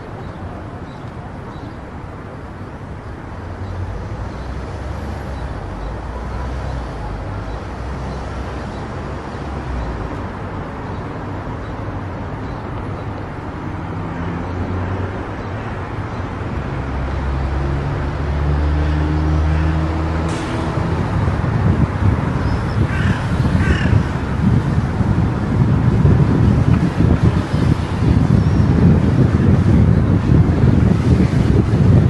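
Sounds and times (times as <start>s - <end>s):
tyre and road noise: 0.0s - 32.0s.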